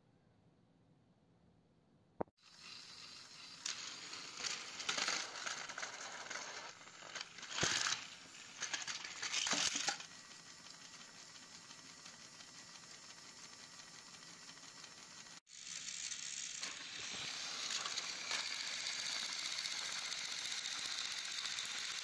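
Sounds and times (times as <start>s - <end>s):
toy trains rattling and clattering: 2.4s - 22.0s.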